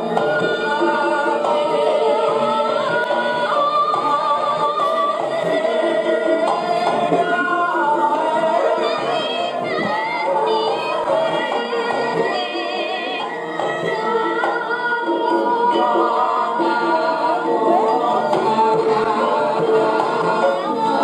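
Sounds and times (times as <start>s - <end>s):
woman singing: 0.0s - 21.0s.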